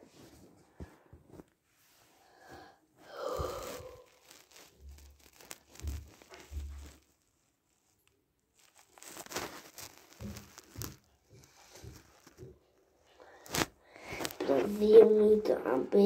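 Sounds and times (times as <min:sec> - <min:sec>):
rustling and crinkling: 0:00.0 - 0:16.0.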